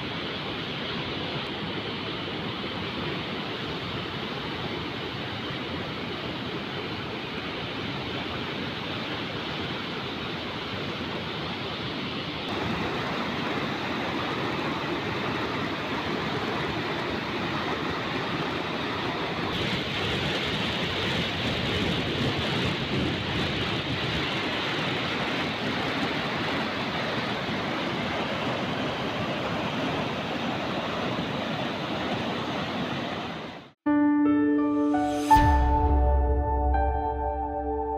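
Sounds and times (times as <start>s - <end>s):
floodwater rushing over weir: 0.0s - 33.6s.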